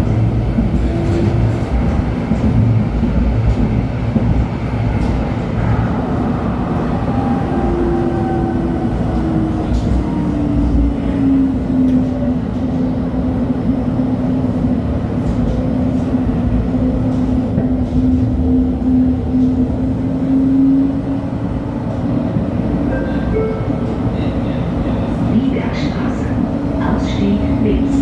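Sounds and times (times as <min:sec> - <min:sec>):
rail car drive tone: 0:00.0 - 0:28.0
wheels rumbling on rails: 0:00.0 - 0:28.0.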